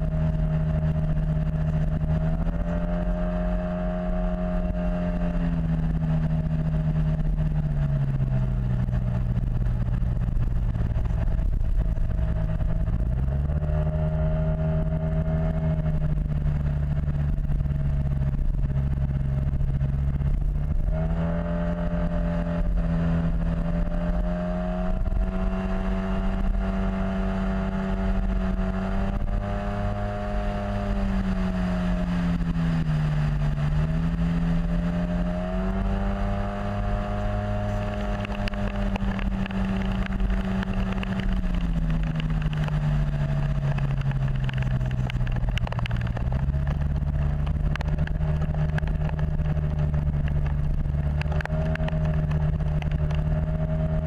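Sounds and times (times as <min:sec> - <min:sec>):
scooter engine running: 0:00.0 - 0:54.0
steady low rumble: 0:00.0 - 0:54.0.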